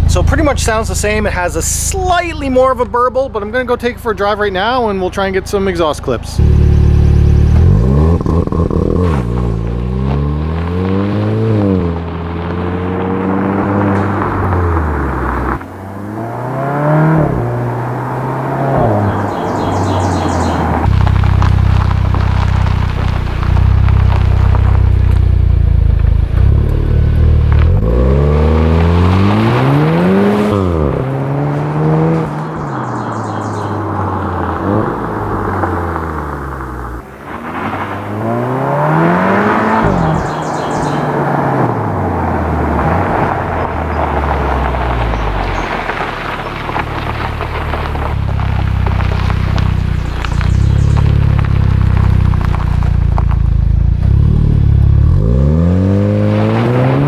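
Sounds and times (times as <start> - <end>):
car exhaust rumbling: 0.0 - 57.0
tyres crackling on gravel: 0.0 - 57.0
car accelerating hard: 6.4 - 57.0.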